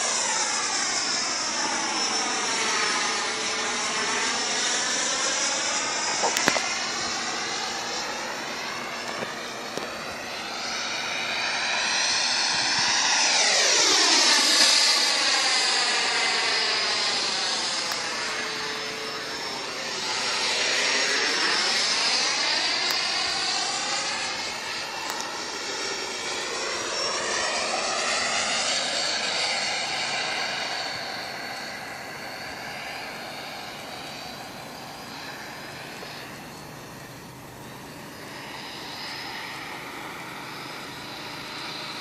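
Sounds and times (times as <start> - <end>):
model jet fan whining past: 0.0 - 42.0.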